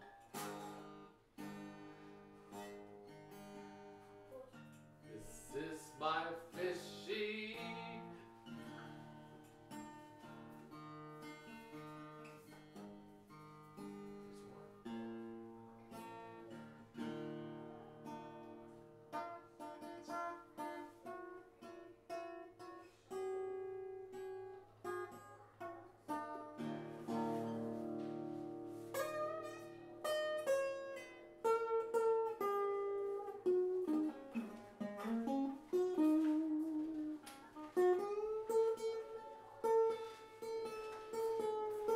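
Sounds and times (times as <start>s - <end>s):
solo acoustic guitar: 0.0s - 41.9s.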